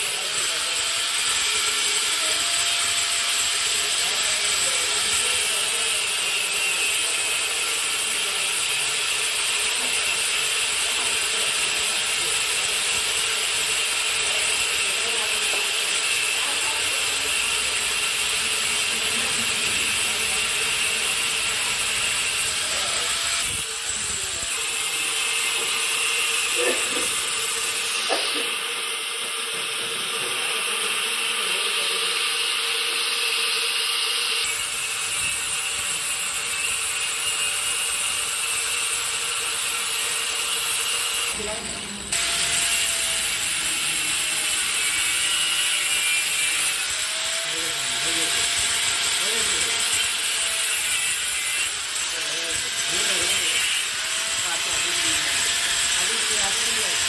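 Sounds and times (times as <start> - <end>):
power tool grinding steel: 0.0 - 57.0.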